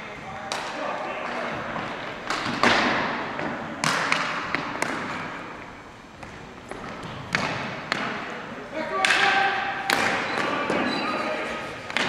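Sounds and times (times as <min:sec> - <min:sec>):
hockey sticks and ball cracking: 0:00.5 - 0:12.0.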